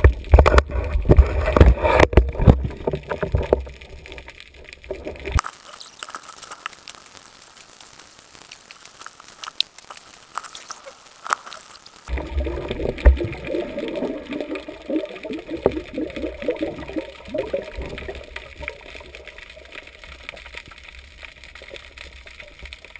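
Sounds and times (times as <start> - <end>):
gurgling rush of water and bubbles: 0.0 - 7.1, 8.8 - 22.9
underwater clicks and crackles: 0.0 - 22.9.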